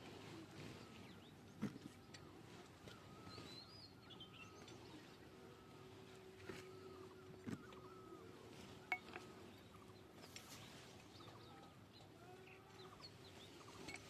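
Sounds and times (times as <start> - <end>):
distant birds chirping: 0.0 - 14.0
faint steady hum: 0.0 - 14.0.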